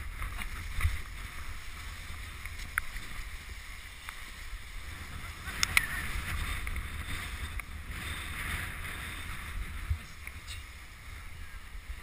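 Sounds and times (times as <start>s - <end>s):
sled runners hissing over snow: 0.0s - 12.0s
wind rumble on microphone: 0.0s - 12.0s.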